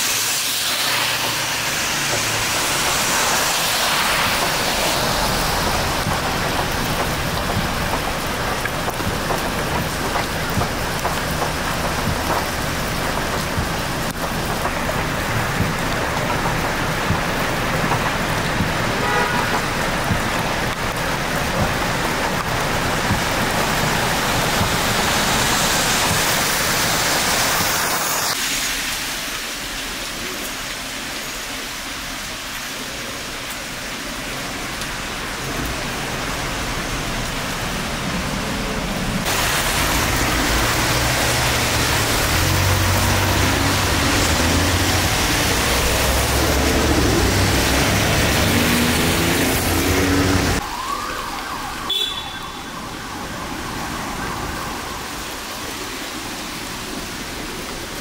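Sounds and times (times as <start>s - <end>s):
vehicles rumbling past: 0.0s - 28.4s, 34.7s - 57.7s
rain falling on street: 0.0s - 58.0s
tyres hissing on wet pavement: 0.0s - 58.0s.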